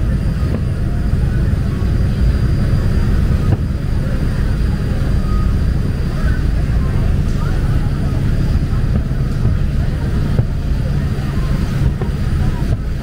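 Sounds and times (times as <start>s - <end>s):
ferryboat engine rumble: 0.0s - 13.0s
rush of boat wake: 0.0s - 13.0s.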